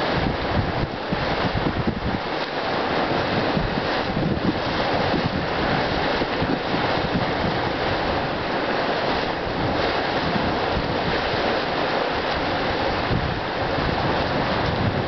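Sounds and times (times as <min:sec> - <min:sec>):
hot spring boiling and gurgling: 0:00.0 - 0:15.0
wind rumbling on microphone: 0:00.0 - 0:15.0.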